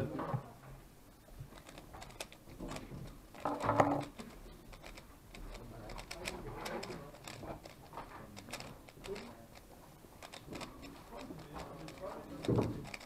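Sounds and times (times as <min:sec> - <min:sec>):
plastic puzzle cube clicking: 0:01.5 - 0:13.0.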